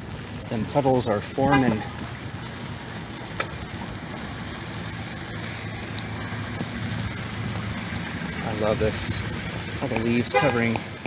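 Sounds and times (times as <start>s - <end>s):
car engine humming: 0.0s - 11.0s
rain hiss: 0.0s - 11.0s.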